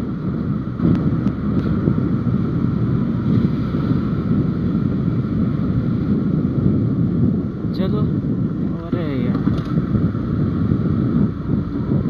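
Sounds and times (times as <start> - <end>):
motorcycle engine drone: 0.0 - 12.0
wind over microphone: 0.0 - 12.0.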